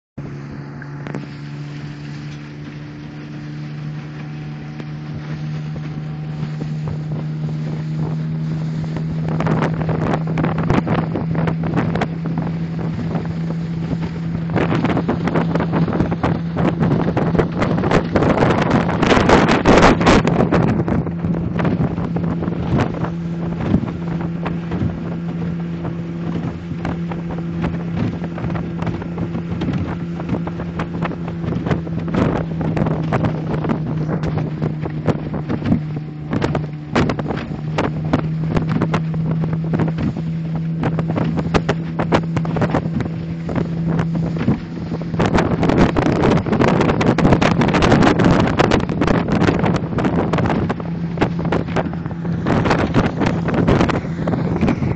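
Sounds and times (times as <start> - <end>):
motorboat engine running: 0.2 - 54.9
wind buffeting microphone: 0.2 - 54.9.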